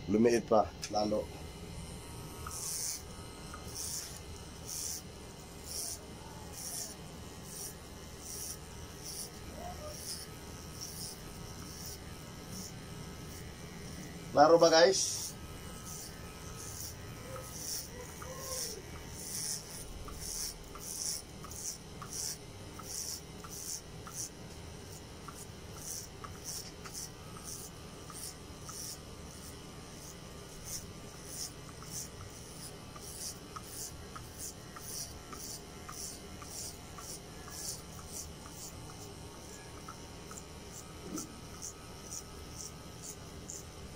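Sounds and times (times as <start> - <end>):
electric hair clippers humming: 0.0 - 43.9
clipper blades rasping through hair: 2.3 - 43.9.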